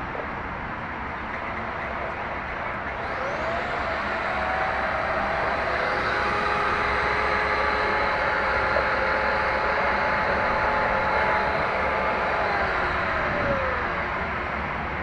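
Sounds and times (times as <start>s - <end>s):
toy motorcycle motor whining: 2.8s - 15.0s.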